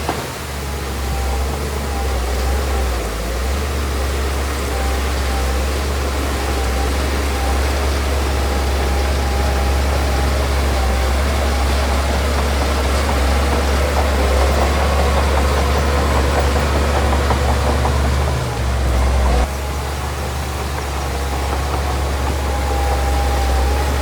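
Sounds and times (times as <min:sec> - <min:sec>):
diesel engine rumbling and whining: 0:00.0 - 0:24.0
machinery rattling and clanking: 0:00.0 - 0:24.0.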